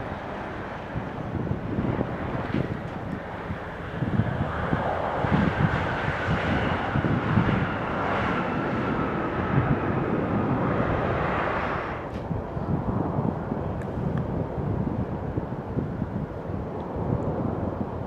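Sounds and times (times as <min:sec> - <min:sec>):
jet engines roaring: 0:00.0 - 0:18.0
wind gusting on microphone: 0:00.0 - 0:18.0.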